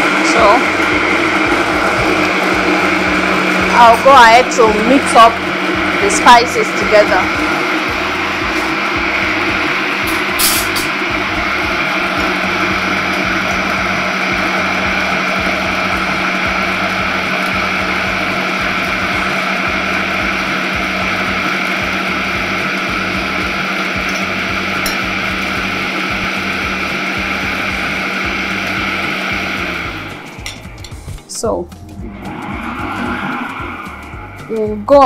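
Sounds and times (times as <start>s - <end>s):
kitchen grinder motor running: 0.0s - 35.0s.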